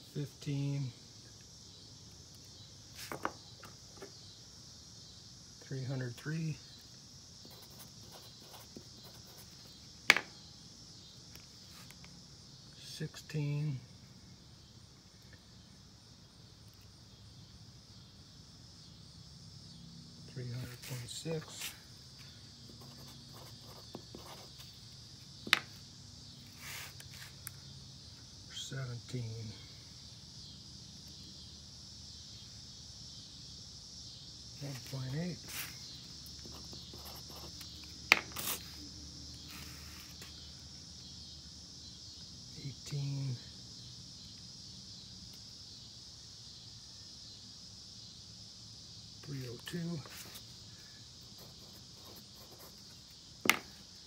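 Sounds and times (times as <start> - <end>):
high-pitched hiss: 0.0 - 54.0.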